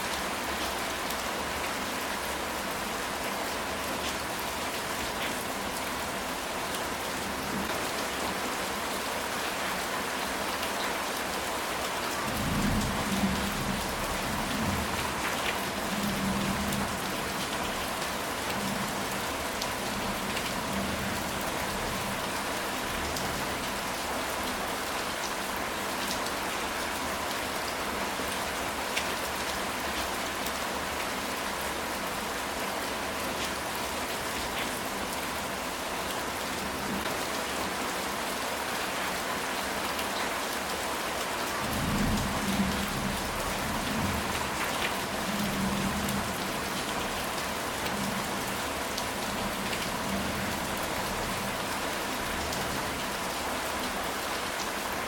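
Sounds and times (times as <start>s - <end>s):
rain on a tile roof: 0.0s - 55.0s.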